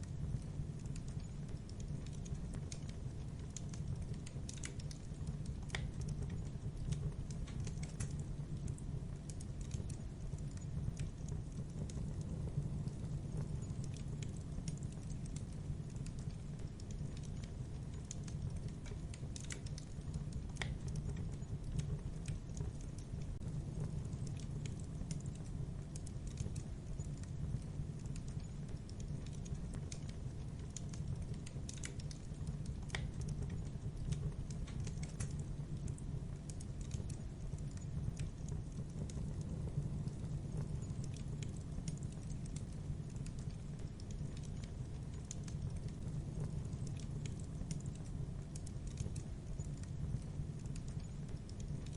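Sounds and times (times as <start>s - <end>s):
sharp crackles and ticks: 0.0s - 51.9s
steady low rumble: 0.0s - 51.9s.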